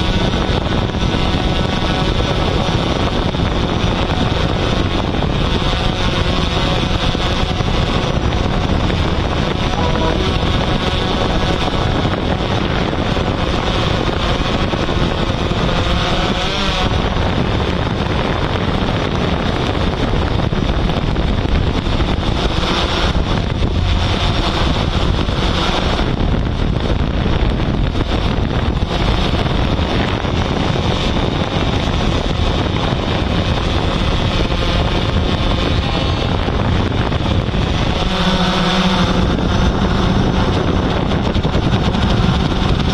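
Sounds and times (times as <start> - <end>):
drone motors and propellers: 0.0 - 42.9
wind noise on microphone: 0.0 - 42.9.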